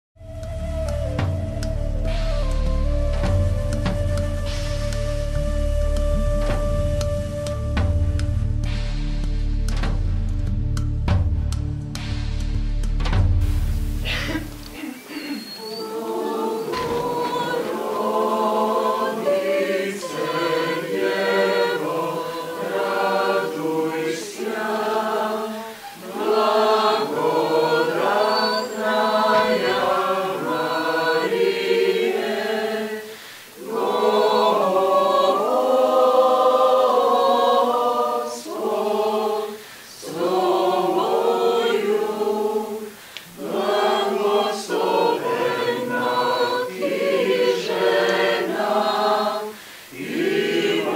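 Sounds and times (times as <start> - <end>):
choir singing a cappella: 0.4 - 9.9, 14.0 - 50.9.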